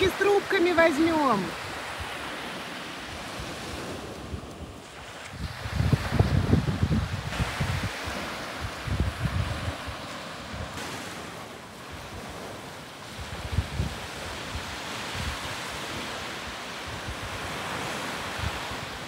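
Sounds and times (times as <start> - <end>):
waves washing up a shore: 0.0 - 19.0
wind buffeting microphone: 0.0 - 19.0.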